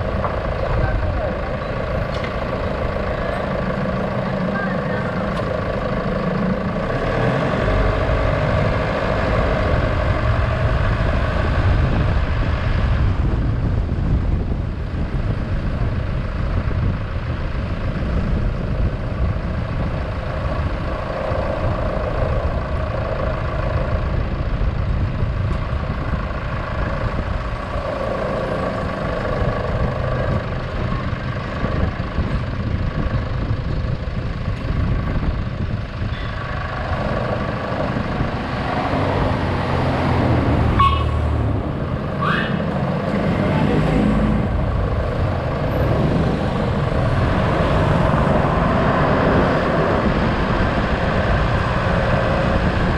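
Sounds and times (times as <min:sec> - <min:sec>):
road rumble: 0:00.0 - 0:52.9
vehicle engine hum: 0:00.0 - 0:52.9.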